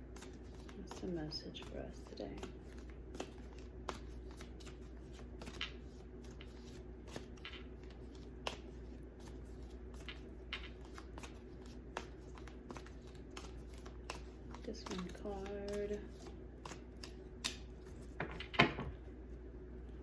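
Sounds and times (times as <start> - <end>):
cards being shuffled: 0.1 - 18.6.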